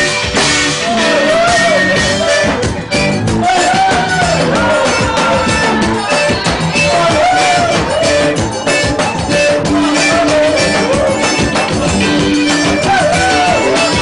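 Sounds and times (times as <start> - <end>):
music with steady beat: 0.0 - 14.0.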